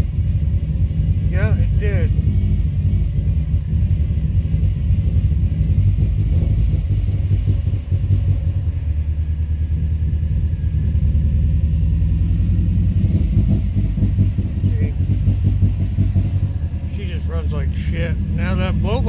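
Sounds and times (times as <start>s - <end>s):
car engine idling roughly: 0.0s - 19.0s.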